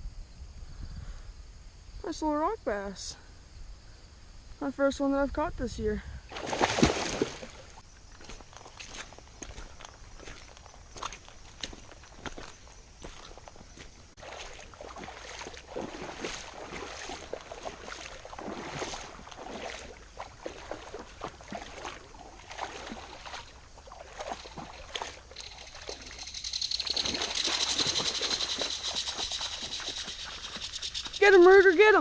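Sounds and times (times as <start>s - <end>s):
splashing in shallow water: 6.2s - 32.0s.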